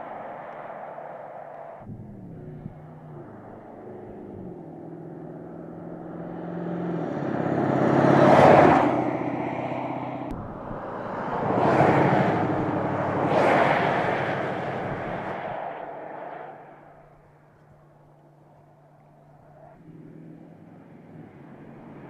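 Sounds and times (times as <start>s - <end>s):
car engine running: 0.0s - 13.3s, 17.1s - 22.0s
cars passing close by: 0.0s - 22.0s.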